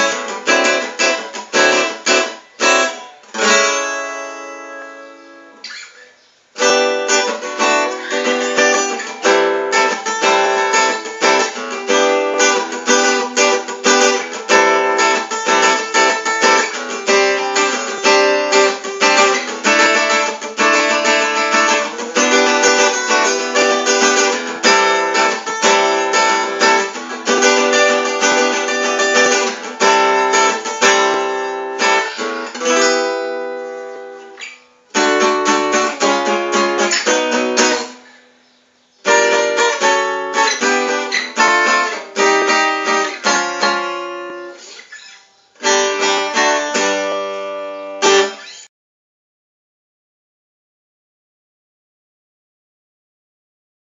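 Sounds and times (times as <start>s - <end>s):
acoustic guitar strumming chords: 0.0s - 48.7s.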